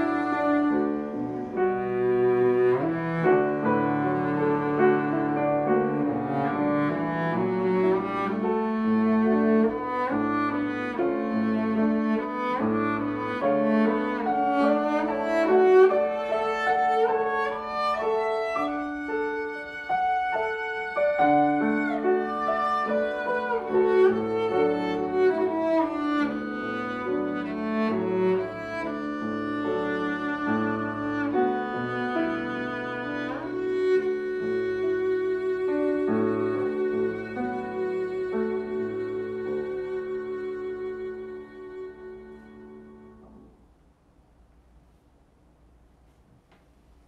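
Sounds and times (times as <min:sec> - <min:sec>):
bowed cello: 0:00.0 - 0:43.9
piano accompaniment: 0:00.0 - 0:43.9.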